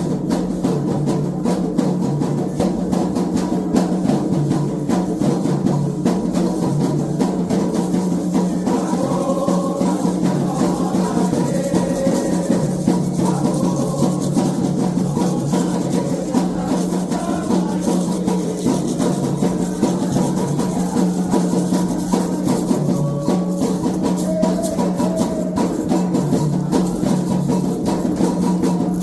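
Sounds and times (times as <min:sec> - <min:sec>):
hand drums playing fast rhythm: 0:00.0 - 0:29.0.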